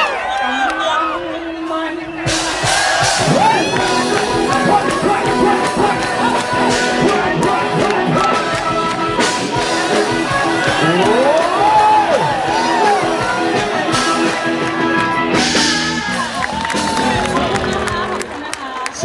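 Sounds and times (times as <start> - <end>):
person singing: 0.4 - 18.2
drums: 1.6 - 19.0
electric bass: 3.0 - 18.3.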